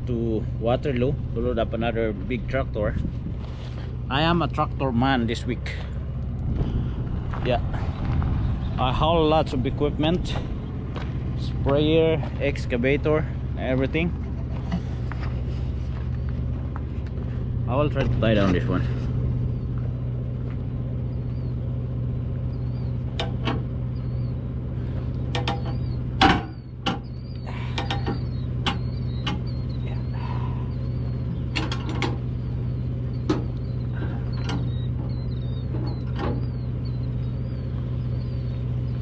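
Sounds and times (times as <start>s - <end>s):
low engine hum: 0.0s - 39.0s.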